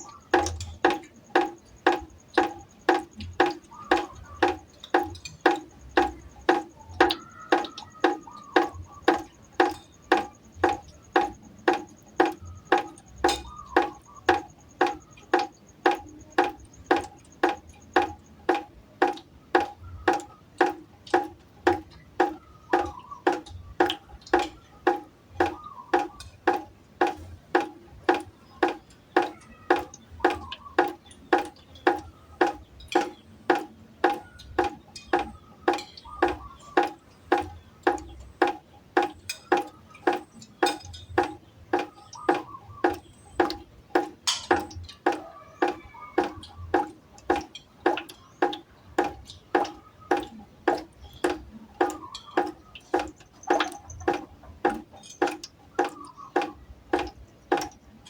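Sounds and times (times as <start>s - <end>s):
water dripping into a pot: 0.0s - 58.0s.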